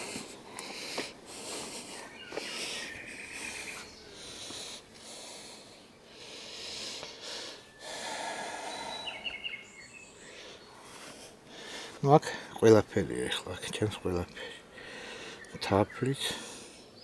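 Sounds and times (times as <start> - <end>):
person breathing heavily: 0.0 - 9.5, 10.1 - 12.6, 14.4 - 15.5, 16.3 - 17.0.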